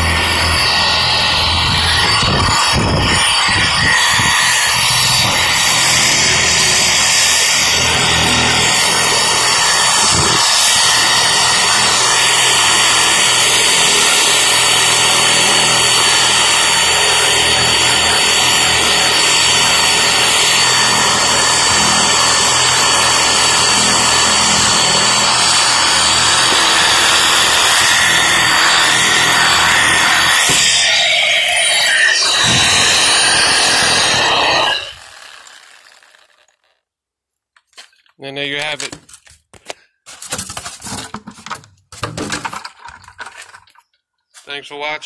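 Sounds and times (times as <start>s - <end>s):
reciprocating saw running: 0.0s - 36.8s.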